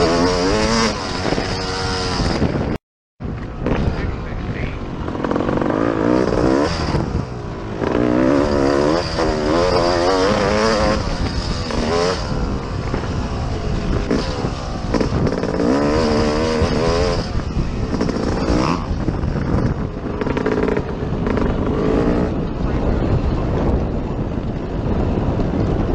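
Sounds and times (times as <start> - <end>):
dirt bike engine revving: 0.0 - 2.8, 3.4 - 25.6
rushing noise: 3.4 - 25.9.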